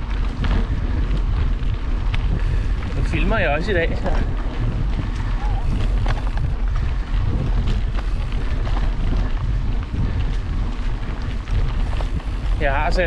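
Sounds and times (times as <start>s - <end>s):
bike knocks and rattles: 0.0s - 13.0s
wind buffeting microphone: 0.0s - 13.0s.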